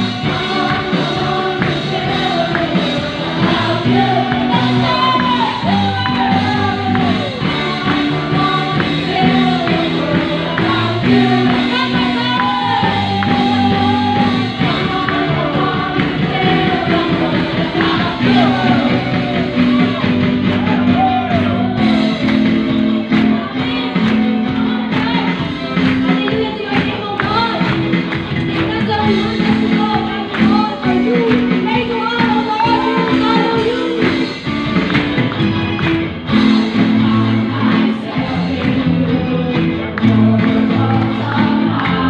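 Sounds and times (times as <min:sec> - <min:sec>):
woman singing into microphone: 0:00.0 - 0:34.4, 0:36.6 - 0:42.0
live band playing: 0:00.0 - 0:42.0.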